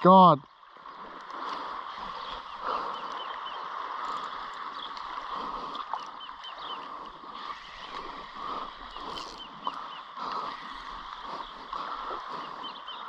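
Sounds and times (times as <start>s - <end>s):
shallow water lapping: 0.0s - 13.0s.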